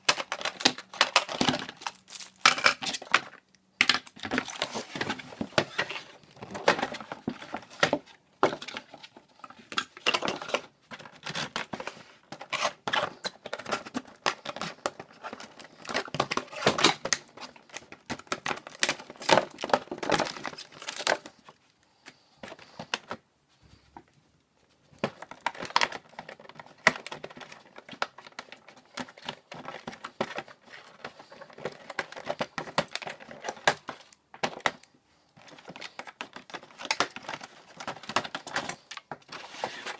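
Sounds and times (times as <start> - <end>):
packaging crinkling and tearing: 0.0 - 8.0, 9.7 - 21.4, 25.0 - 39.9.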